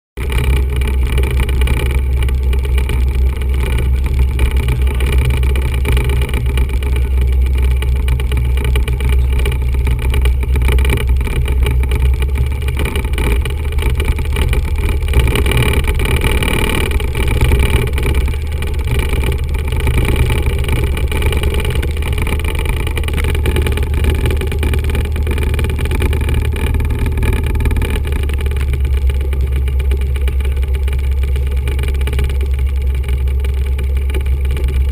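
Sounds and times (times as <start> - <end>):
aircraft engine droning: 0.2 - 34.9.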